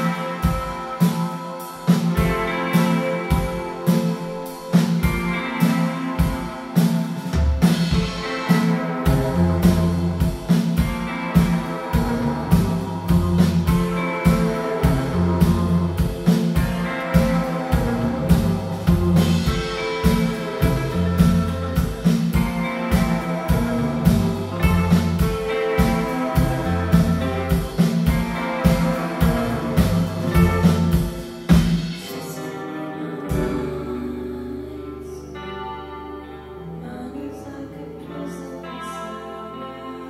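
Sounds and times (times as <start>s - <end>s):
drums: 0.0s - 35.9s
bass guitar: 0.0s - 40.0s
electric guitars: 0.0s - 40.0s.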